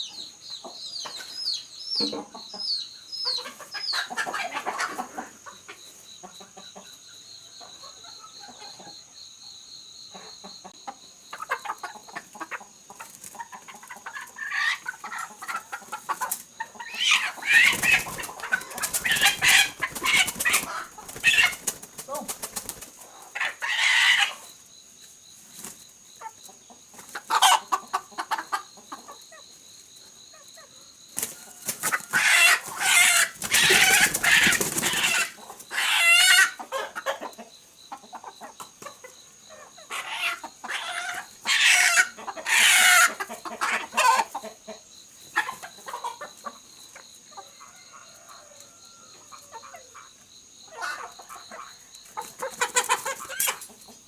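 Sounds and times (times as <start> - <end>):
chickens clucking and squawking: 0.0 - 54.0.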